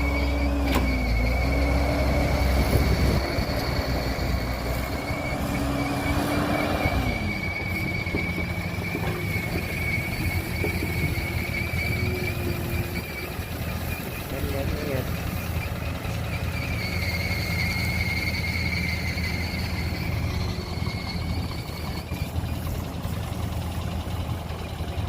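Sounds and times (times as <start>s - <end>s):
heavy machinery engine rumble: 0.0s - 25.0s
high-pitched squeal: 0.0s - 25.0s.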